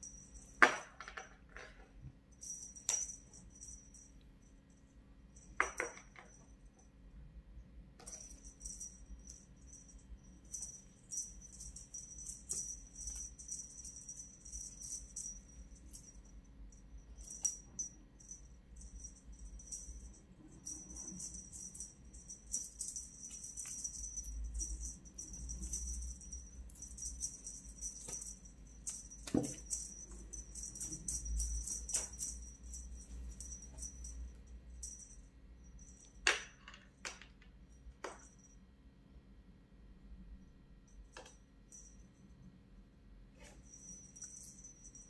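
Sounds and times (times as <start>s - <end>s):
small bell jingling: 0.0s - 0.7s, 2.0s - 7.0s, 8.0s - 38.8s, 40.4s - 42.5s, 43.4s - 45.0s.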